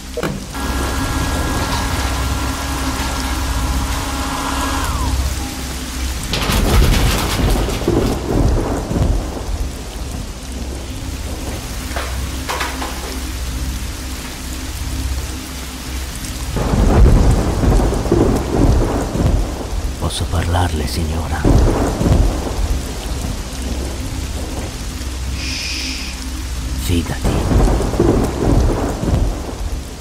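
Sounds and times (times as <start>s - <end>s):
thunder rolling: 0.0s - 13.8s, 16.5s - 30.0s
steady rain: 0.0s - 30.0s.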